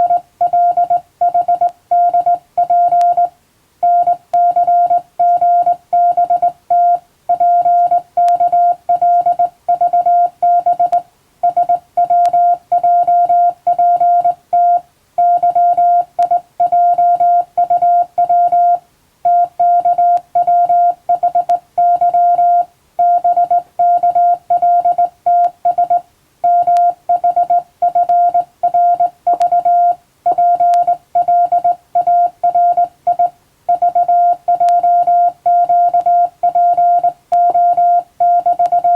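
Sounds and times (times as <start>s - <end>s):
morse code tone: 0.0s - 38.9s.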